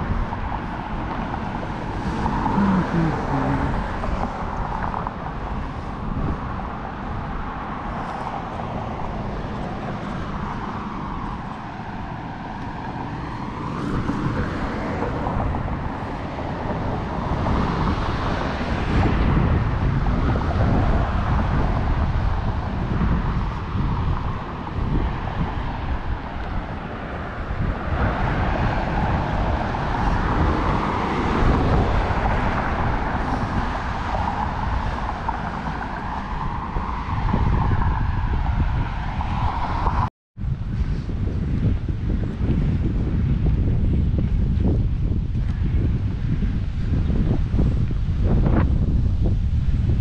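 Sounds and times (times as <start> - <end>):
cars passing on road: 0.0 - 50.0.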